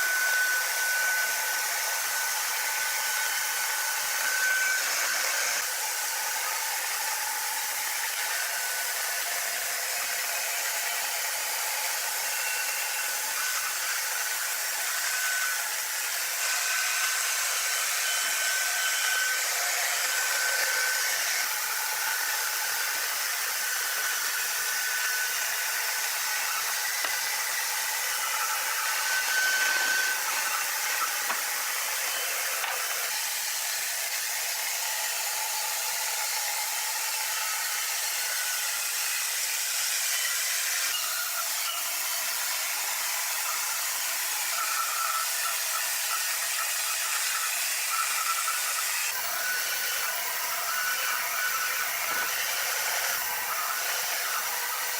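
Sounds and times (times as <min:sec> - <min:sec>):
sawmill machinery whirring: 0:00.0 - 0:54.9.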